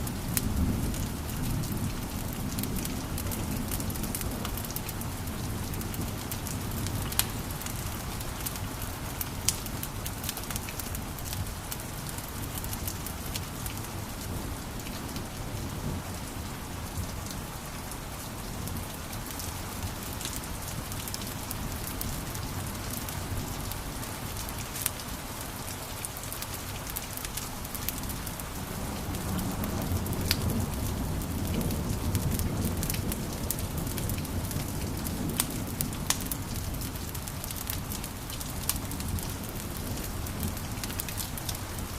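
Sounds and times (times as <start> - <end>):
fire popping and snapping: 0.0 - 15.3, 18.7 - 41.9
fire hissing and rumbling: 0.0 - 41.9.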